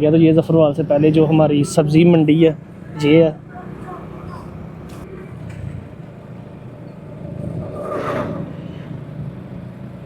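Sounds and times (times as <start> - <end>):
nearby traffic passing: 0.0 - 10.0
road noise: 0.0 - 10.0.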